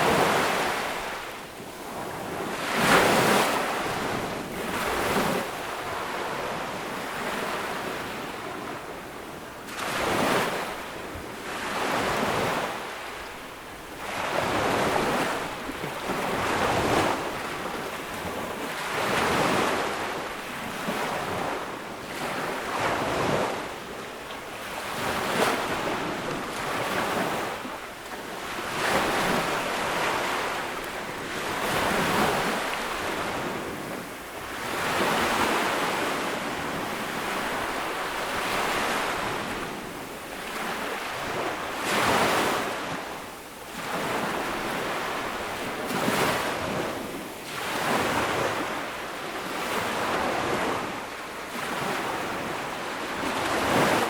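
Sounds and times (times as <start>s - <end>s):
ocean waves breaking: 0.0s - 9.0s, 9.7s - 54.0s.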